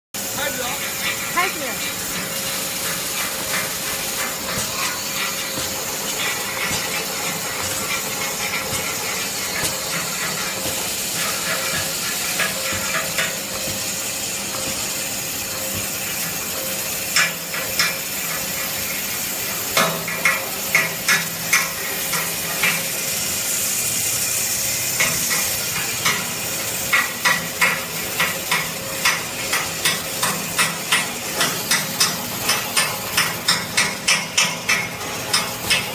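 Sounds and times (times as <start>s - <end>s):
mechanical knocks and clatter: 1.0s - 19.0s, 25.0s - 35.9s.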